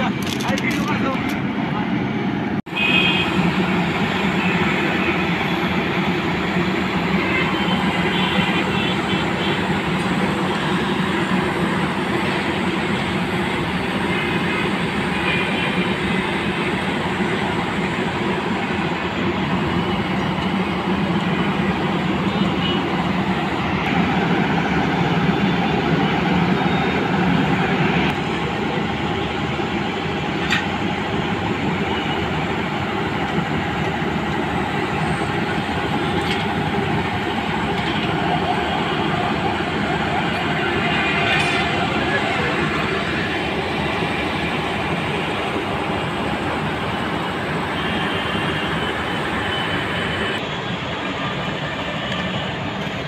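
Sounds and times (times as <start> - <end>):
truck engine droning: 3.2 - 50.5.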